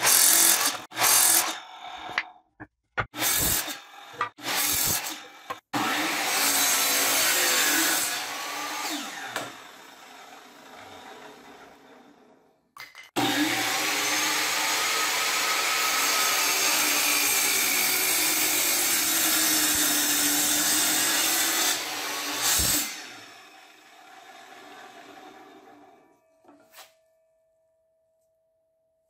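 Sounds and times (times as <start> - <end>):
electric miter saw cutting wood: 0.0 - 2.2, 3.1 - 12.5, 13.2 - 26.1.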